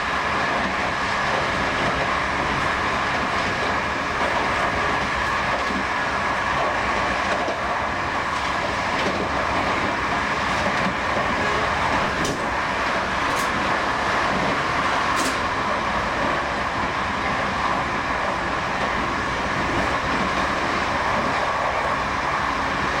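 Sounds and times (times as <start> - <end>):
train passing on adjacent track: 0.0 - 23.0
train running on rails: 0.0 - 23.0.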